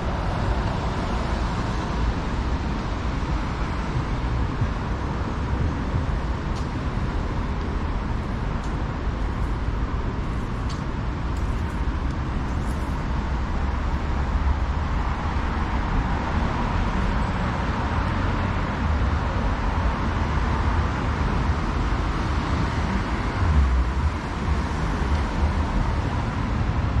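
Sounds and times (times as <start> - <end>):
city traffic rumble: 0.0 - 27.0.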